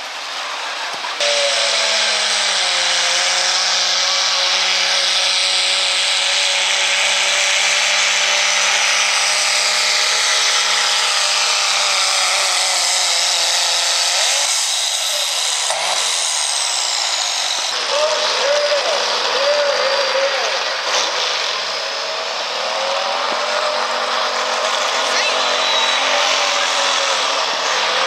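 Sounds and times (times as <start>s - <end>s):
diesel truck engine at full throttle: 0.0s - 28.0s.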